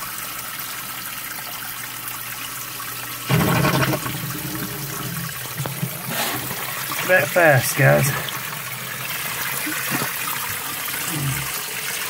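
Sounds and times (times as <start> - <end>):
sump pump churning water: 1.8 - 12.0.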